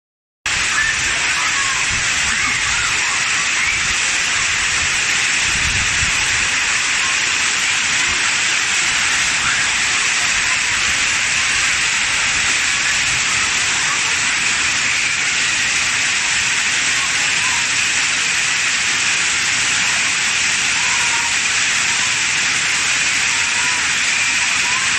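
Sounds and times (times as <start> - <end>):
hail and heavy rain pelting: 0.5 - 24.9.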